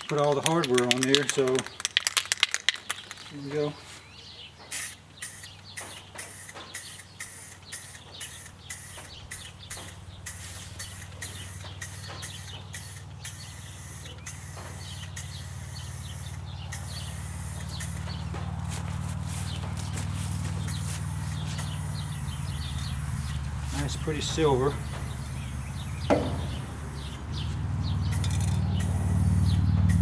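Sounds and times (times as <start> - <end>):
spray paint can hissing: 0.0 - 3.2, 4.7 - 30.0
steady low hum: 4.6 - 30.0.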